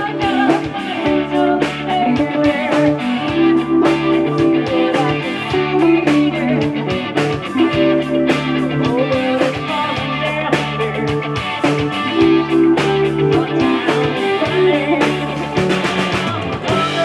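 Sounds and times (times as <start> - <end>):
drum kit beat: 0.0 - 17.0
electric guitar music: 0.0 - 17.0.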